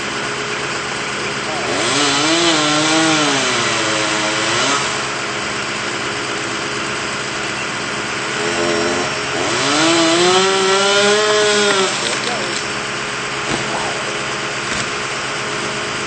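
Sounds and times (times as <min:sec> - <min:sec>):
chainsaw engine revving: 0:00.0 - 0:16.0
engine idling: 0:00.0 - 0:16.0.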